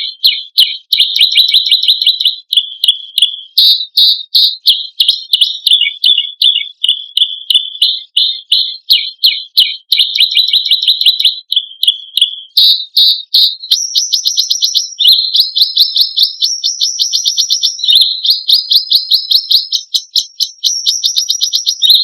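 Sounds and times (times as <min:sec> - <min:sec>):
songbird sharp call notes: 0:00.0 - 0:22.0.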